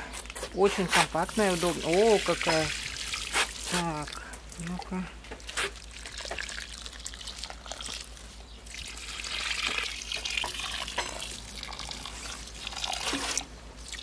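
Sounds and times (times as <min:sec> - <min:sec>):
water pouring onto soil: 0:00.9 - 0:04.7, 0:05.4 - 0:14.0.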